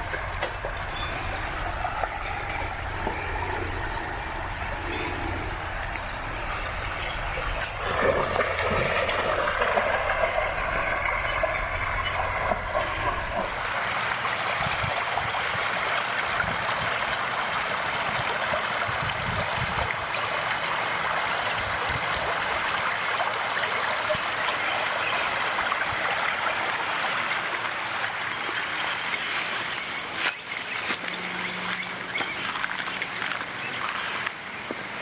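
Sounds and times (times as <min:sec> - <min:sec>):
stream babbling over stones: 0:00.0 - 0:35.0.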